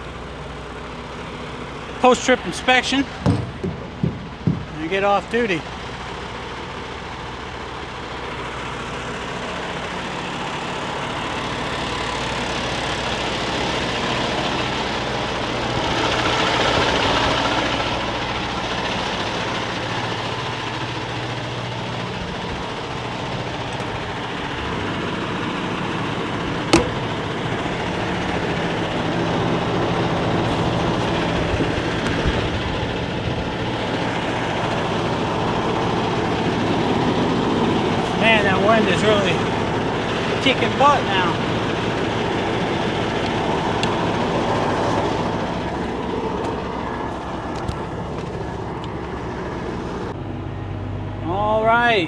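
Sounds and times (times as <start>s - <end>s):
diesel truck idling: 0.0s - 52.0s.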